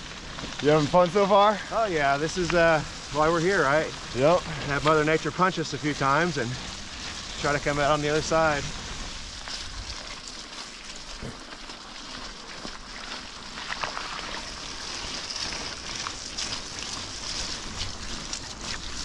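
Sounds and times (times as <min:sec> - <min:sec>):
bicycle tyres rolling through mud: 0:00.0 - 0:19.0.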